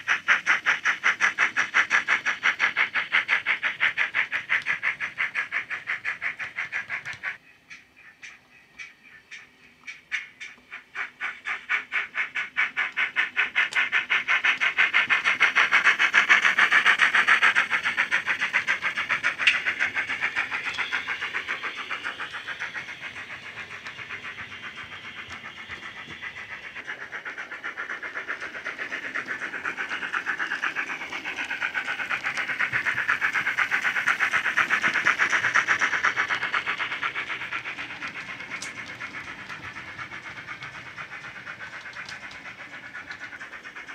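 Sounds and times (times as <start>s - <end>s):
model steam locomotive chuffs: 0.0s - 43.9s.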